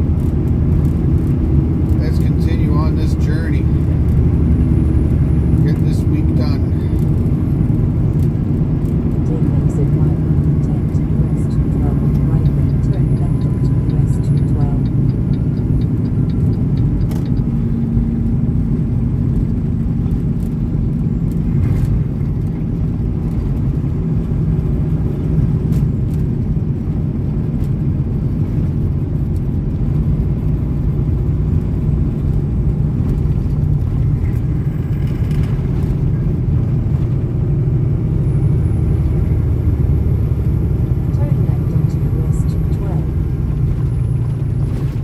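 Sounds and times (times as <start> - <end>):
truck engine and road noise: 0.0 - 45.0.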